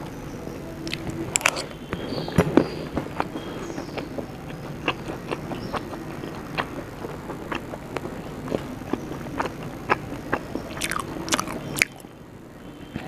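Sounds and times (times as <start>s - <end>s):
person chewing and crunching food: 0.8s - 12.0s.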